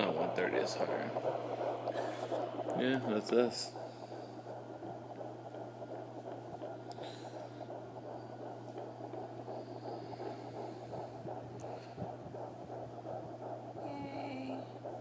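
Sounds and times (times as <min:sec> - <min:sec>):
fetal heartbeat whooshing pulse: 0:00.0 - 0:15.0
steady low hum: 0:00.0 - 0:15.0.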